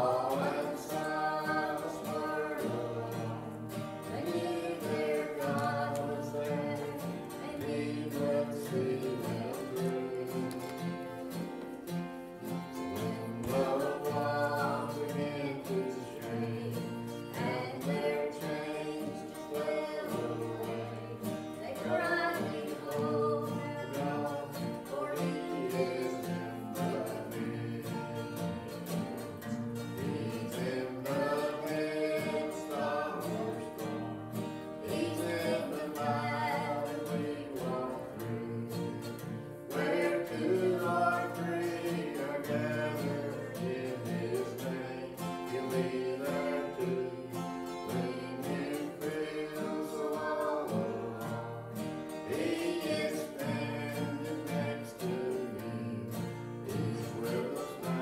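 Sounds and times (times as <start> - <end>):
gospel singing: 0.0 - 58.0.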